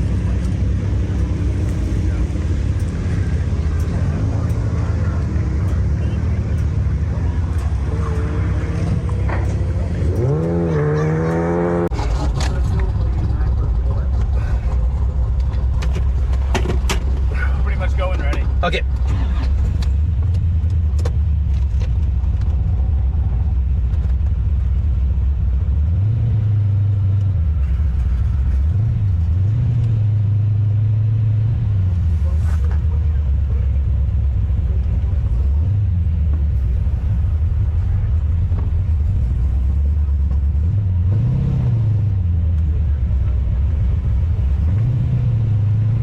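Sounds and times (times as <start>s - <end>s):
race car engine running hard: 0.0s - 46.0s.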